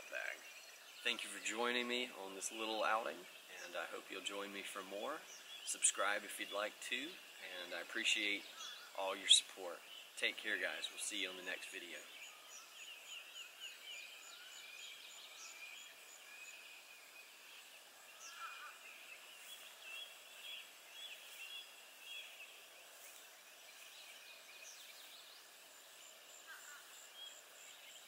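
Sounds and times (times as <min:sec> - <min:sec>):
birds chirping and trilling: 0:00.0 - 0:28.0.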